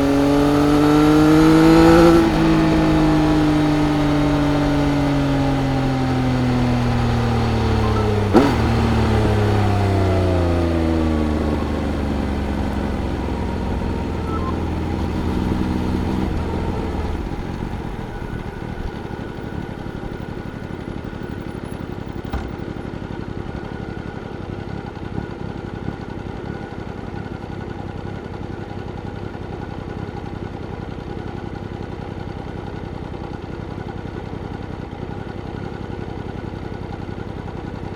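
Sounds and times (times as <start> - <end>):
motorcycle engine slowing to idle: 0.0 - 37.9.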